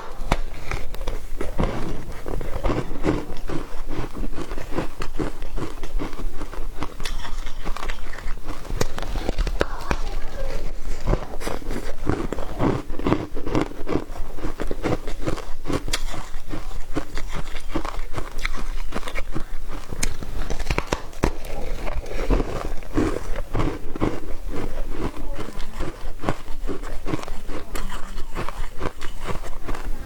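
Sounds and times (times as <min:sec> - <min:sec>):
person chewing crunchy ice: 0:00.0 - 0:30.0.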